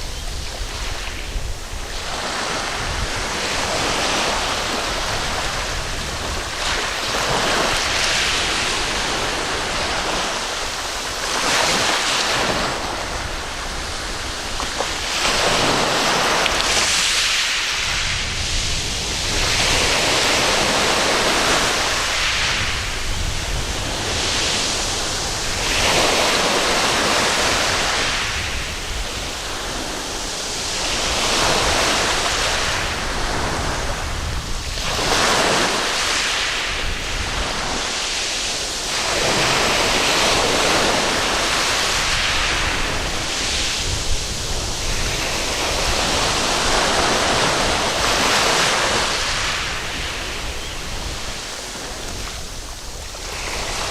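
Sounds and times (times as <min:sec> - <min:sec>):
waves breaking on beach: 0:00.0 - 0:53.9.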